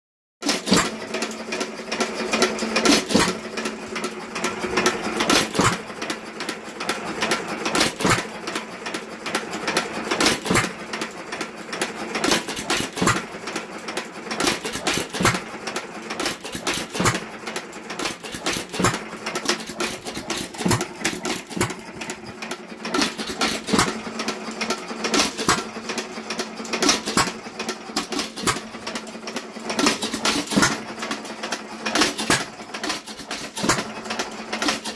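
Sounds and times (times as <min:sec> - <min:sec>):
engine clattering and knocking: 0:00.4 - 0:34.9.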